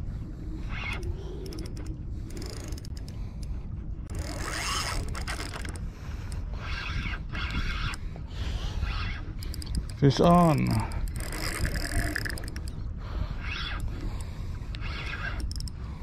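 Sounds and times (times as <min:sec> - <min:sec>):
steady low rumble: 0:00.0 - 0:16.0
fishing reel clicking: 0:00.7 - 0:03.5, 0:04.1 - 0:08.0, 0:08.8 - 0:12.8, 0:13.4 - 0:16.0.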